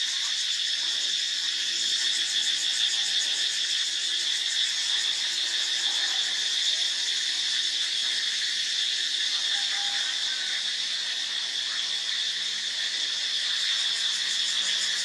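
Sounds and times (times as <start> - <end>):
insects buzzing drone: 0.0 - 15.0.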